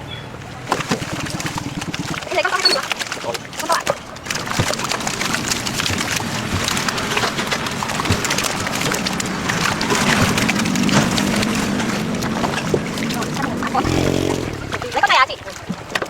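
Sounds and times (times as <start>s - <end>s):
fish thrashing and splashing in water: 0.4s - 16.0s.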